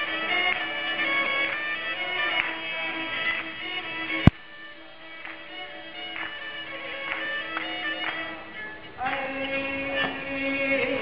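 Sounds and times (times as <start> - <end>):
folk melody: 0.0 - 11.0.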